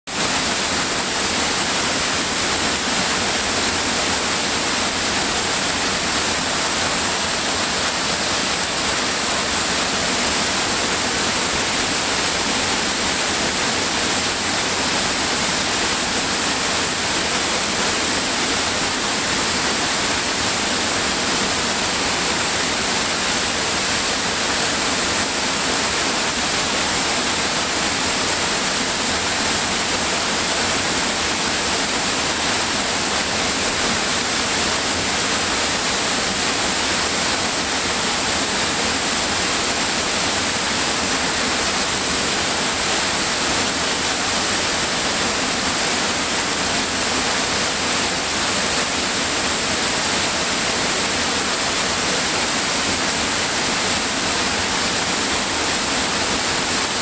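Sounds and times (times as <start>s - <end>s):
waterfall rushing: 0.1s - 57.0s.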